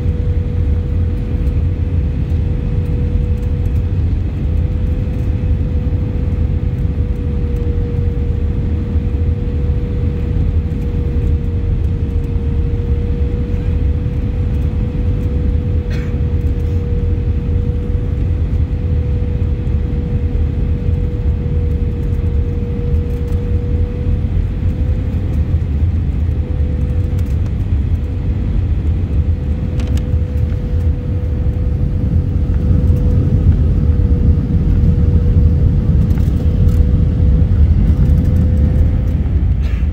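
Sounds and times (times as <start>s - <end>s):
airplane cabin engine rumble: 0.0s - 39.9s
droning tone: 0.0s - 39.9s.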